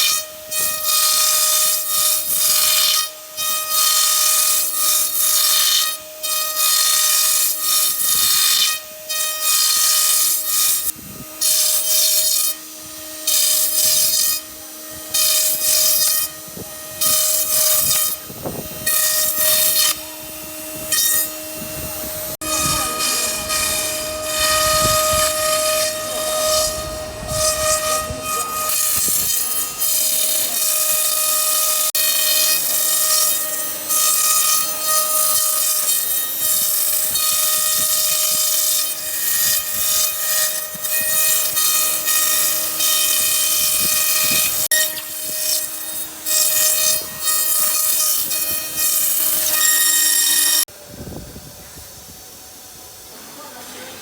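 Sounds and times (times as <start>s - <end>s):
router spindle whining: 0.0s - 54.0s.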